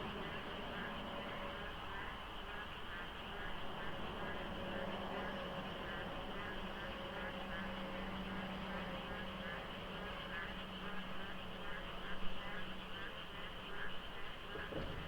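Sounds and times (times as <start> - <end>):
steady low hum: 0.0 - 13.8
frogs croaking: 0.0 - 15.0.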